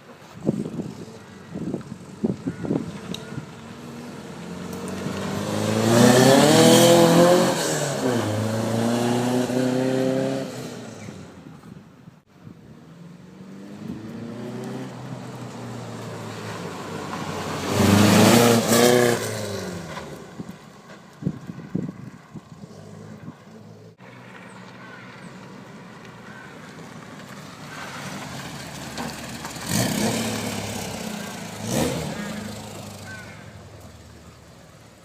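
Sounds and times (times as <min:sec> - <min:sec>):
vehicles passing by: 0:00.0 - 0:35.0.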